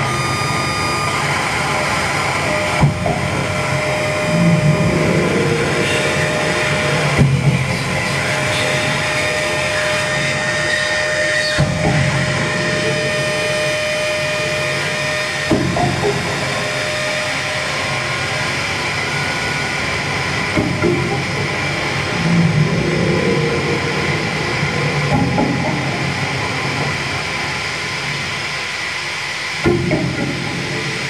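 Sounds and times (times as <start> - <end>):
steady held electronic tones: 0.0 - 27.3
experimental noise music: 0.0 - 31.0.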